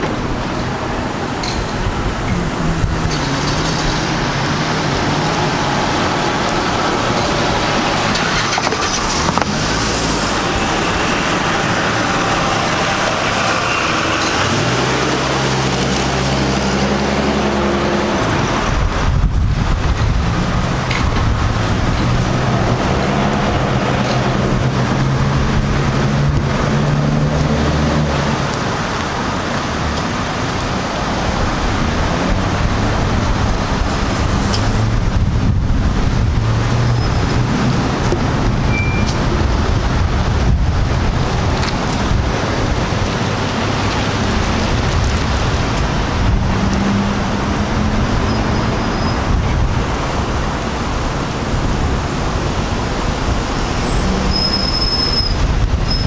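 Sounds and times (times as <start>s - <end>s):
vehicle engine humming: 0.0s - 55.9s.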